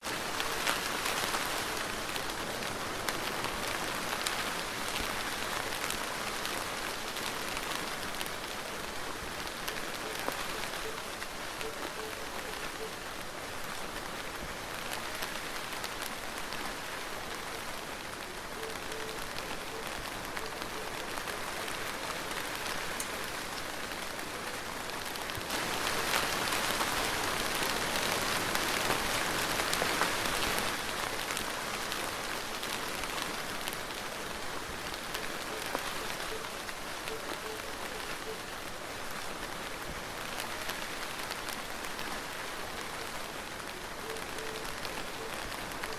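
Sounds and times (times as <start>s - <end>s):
soft rain falling: 0.0s - 45.9s.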